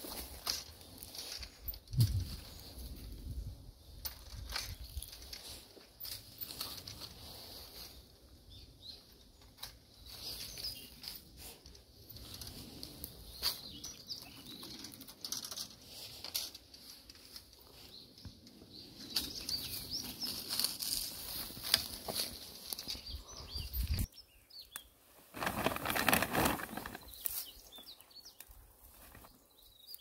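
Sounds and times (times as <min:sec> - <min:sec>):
rustling leaves and twigs: 0:00.0 - 0:30.0.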